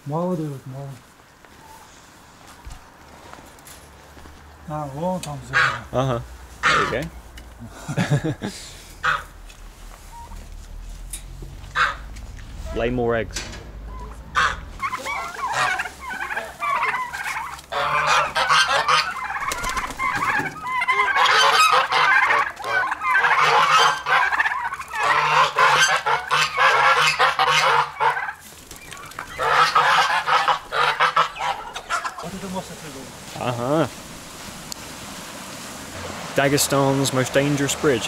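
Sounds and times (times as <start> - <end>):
geese honking: 1.5 - 2.0, 4.8 - 7.4, 8.6 - 35.1, 35.9 - 38.0.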